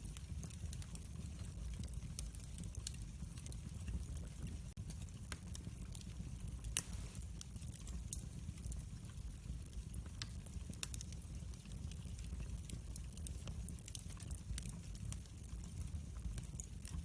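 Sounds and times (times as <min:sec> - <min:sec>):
low steady fire rumble: 0:00.0 - 0:17.0
wood fire crackling: 0:00.0 - 0:17.0.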